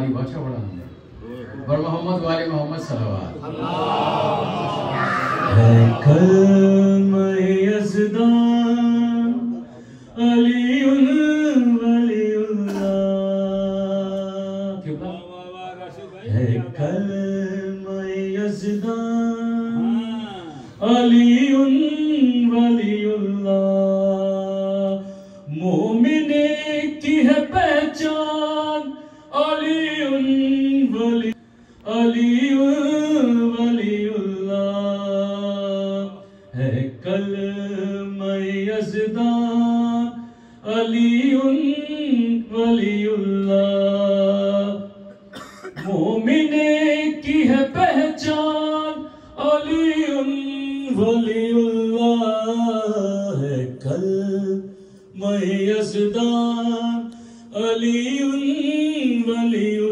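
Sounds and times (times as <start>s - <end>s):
man singing unaccompanied: 5.4s - 15.3s, 16.3s - 59.9s.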